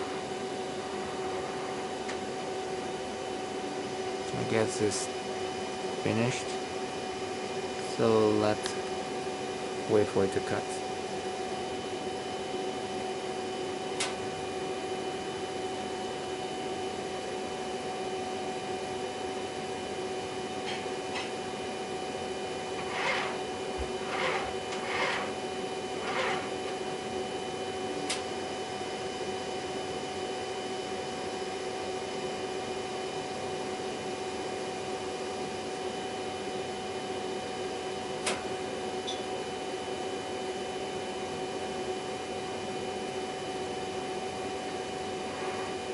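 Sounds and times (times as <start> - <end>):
printer fans humming: 0.0 - 45.9.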